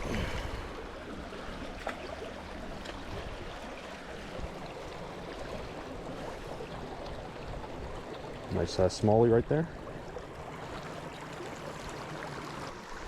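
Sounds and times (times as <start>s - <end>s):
river water babbling: 0.0s - 13.0s.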